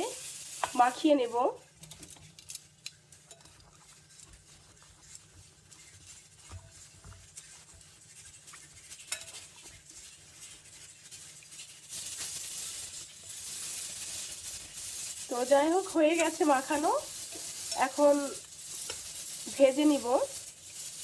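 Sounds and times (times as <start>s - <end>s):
frying sizzle: 0.0s - 21.0s
soft rubbing of vegetables: 0.0s - 21.0s.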